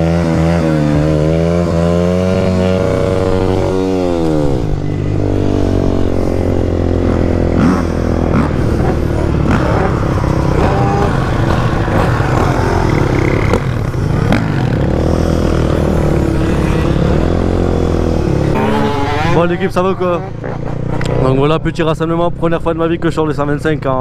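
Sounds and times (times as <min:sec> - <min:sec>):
motorcycle engines running: 0:00.0 - 0:24.0.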